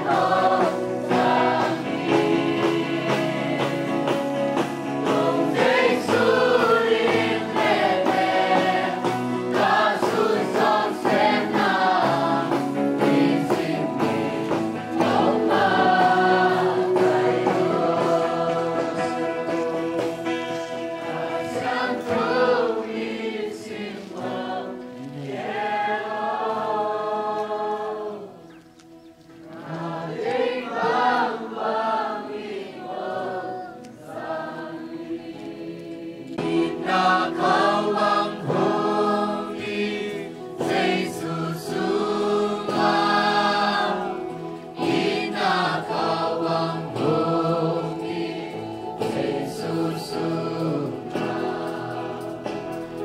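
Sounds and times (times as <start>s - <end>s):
choir singing: 0.0s - 28.5s, 29.5s - 53.0s.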